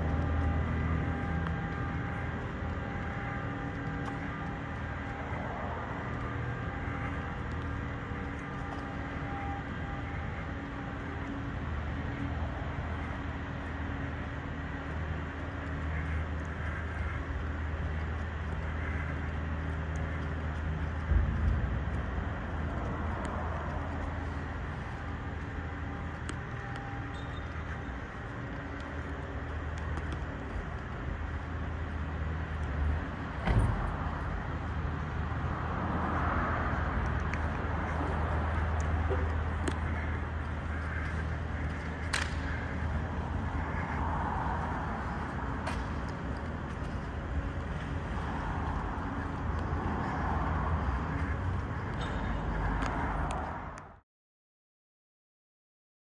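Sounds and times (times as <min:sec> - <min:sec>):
road traffic rumble in tunnel: 0:00.0 - 0:54.0.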